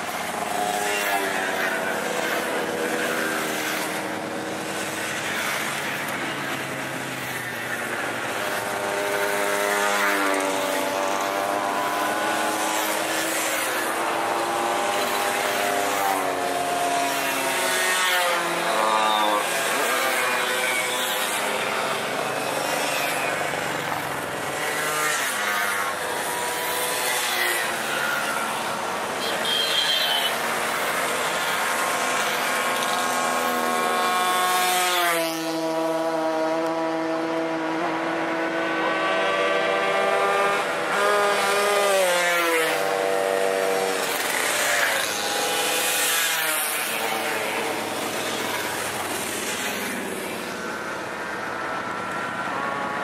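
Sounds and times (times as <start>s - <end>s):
motorcycles riding past: 0.0s - 29.5s, 30.1s - 53.0s.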